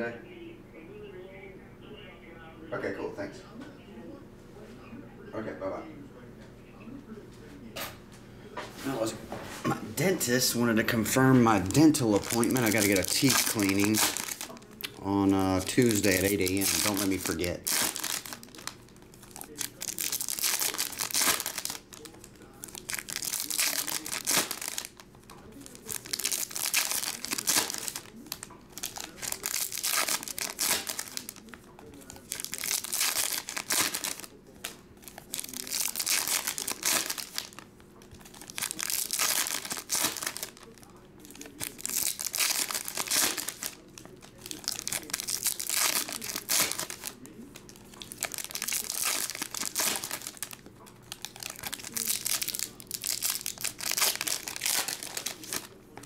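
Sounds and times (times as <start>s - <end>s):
foil wrappers crinkling: 10.2s - 56.0s.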